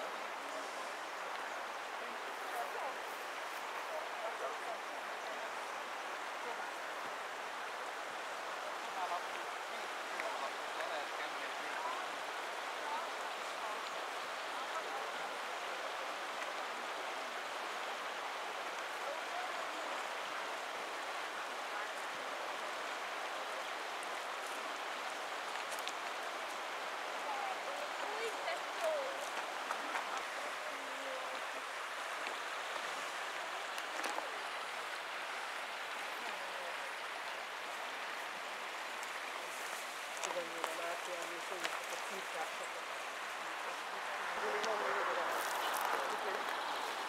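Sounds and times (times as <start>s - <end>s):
river water over stones: 0.0s - 47.0s.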